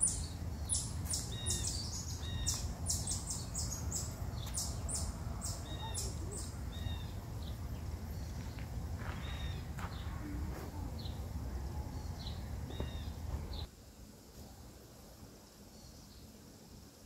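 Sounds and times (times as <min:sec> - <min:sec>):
small birds chirping: 0:00.0 - 0:13.7, 0:15.4 - 0:16.6.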